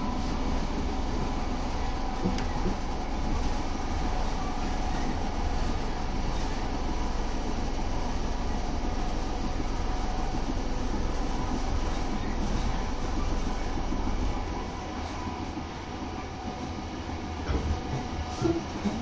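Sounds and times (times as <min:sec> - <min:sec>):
faint steady whine: 0:00.0 - 0:19.0
train wheels rumbling on rails: 0:00.0 - 0:19.0.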